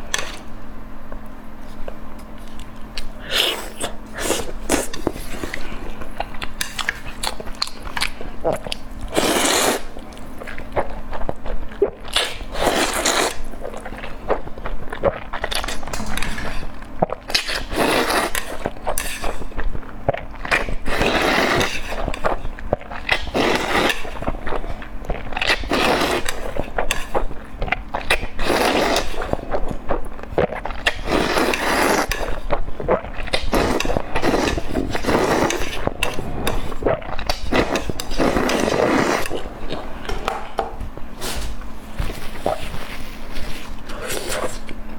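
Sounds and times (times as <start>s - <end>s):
chewing food: 1.6s - 44.8s.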